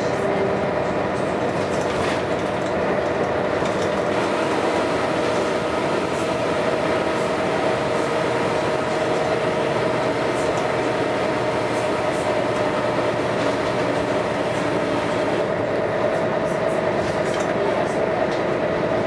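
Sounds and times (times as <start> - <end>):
constant engine whine: 0.0 - 19.0
diesel bus engine droning: 0.0 - 19.0.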